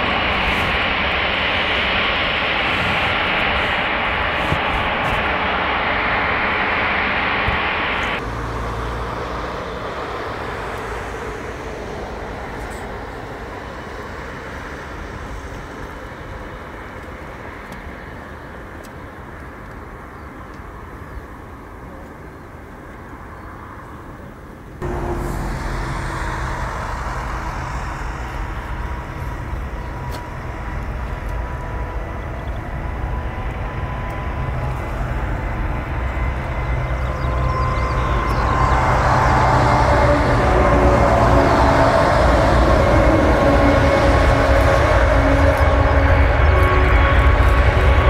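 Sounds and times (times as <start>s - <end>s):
high jet engine whine: 0.0s - 48.0s
jet engine rumble: 0.0s - 48.0s.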